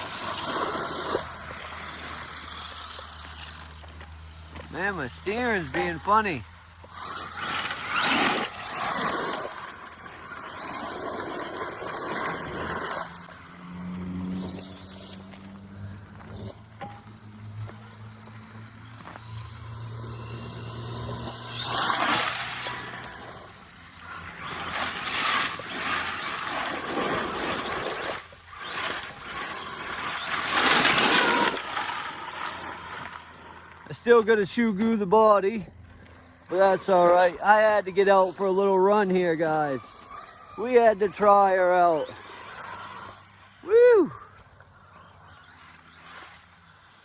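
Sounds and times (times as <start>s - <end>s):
electric motor whine: 0.0s - 34.8s, 35.9s - 47.0s
rc truck driving over dirt and rock: 0.0s - 47.0s
tyres rolling on gravel: 0.0s - 47.0s.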